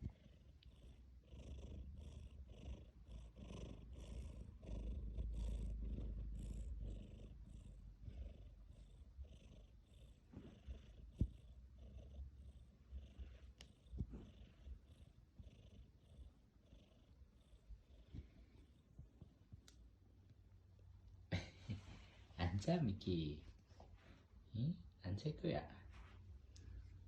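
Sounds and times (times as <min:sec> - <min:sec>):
cat purring: 0:00.0 - 0:22.7.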